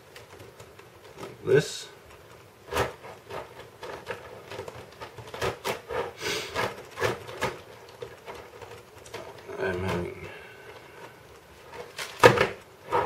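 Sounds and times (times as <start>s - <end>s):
rubbing scrape: 2.3s - 13.0s.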